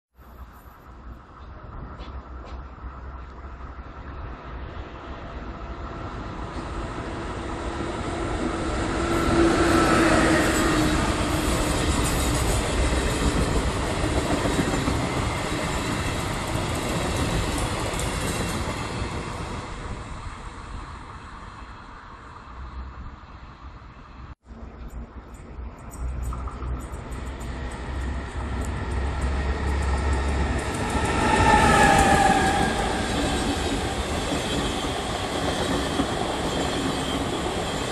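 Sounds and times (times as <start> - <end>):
train humming tone: 0.2 - 37.9
train rumble and clatter: 0.2 - 37.9
train wheels rushing on rails: 0.4 - 22.1, 24.9 - 37.9.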